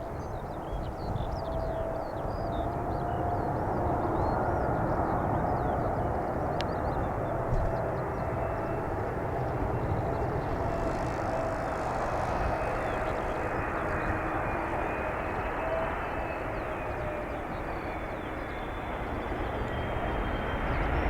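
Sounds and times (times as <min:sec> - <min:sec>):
jet engines rushing: 0:00.3 - 0:21.0.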